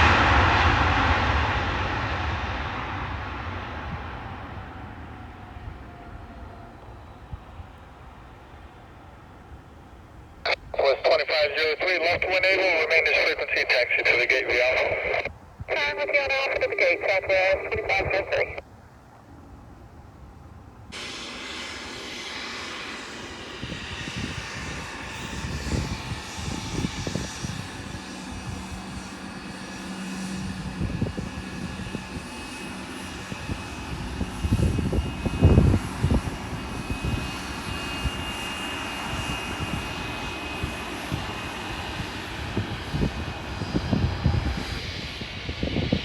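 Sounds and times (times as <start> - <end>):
jet engines whining: 0.0 - 18.6, 20.7 - 46.0.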